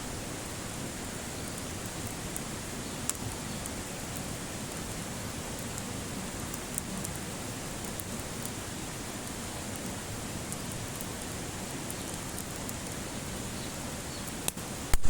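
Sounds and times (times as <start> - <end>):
campfire hissing: 0.0 - 15.0
fire crackling: 0.0 - 15.0.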